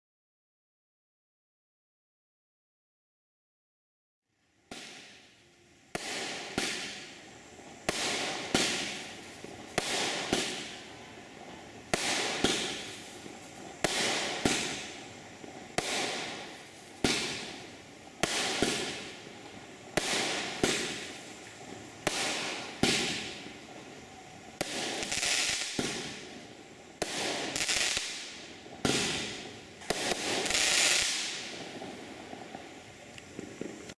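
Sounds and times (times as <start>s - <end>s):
firework bangs: 4.7s - 34.0s.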